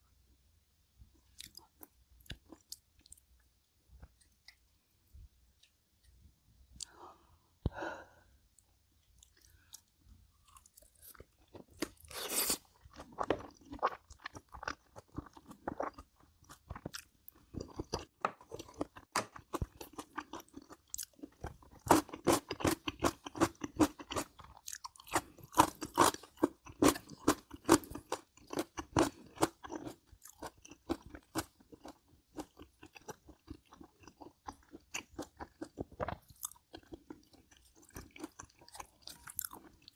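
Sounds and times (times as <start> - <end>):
chewing and crunching crisp food: 1.1 - 7.0, 8.5 - 39.9.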